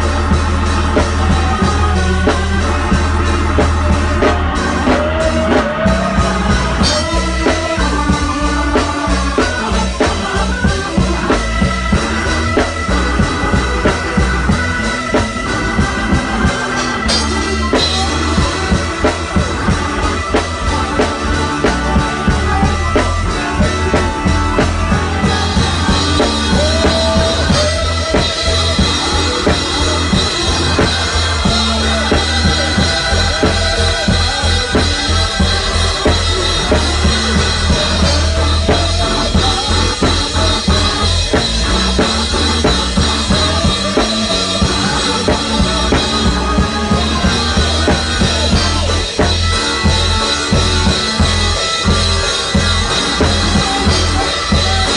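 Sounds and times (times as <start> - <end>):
drum kit beat: 0.0 - 54.9
heavy bass line: 0.0 - 54.9.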